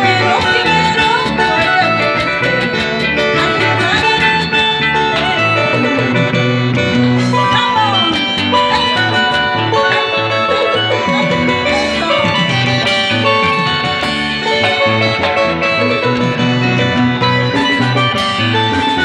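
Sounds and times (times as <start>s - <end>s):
electric bass line: 0.0s - 19.0s.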